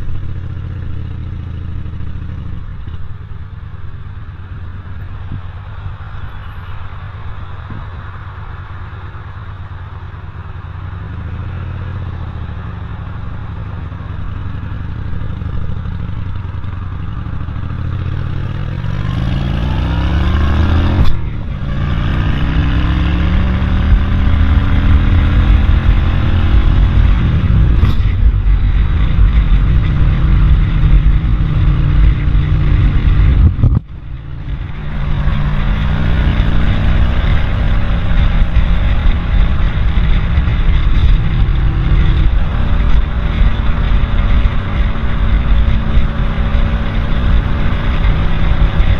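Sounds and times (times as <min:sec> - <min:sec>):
vehicle engine running: 0:00.0 - 0:48.9
wind rumble on microphone: 0:00.0 - 0:48.9.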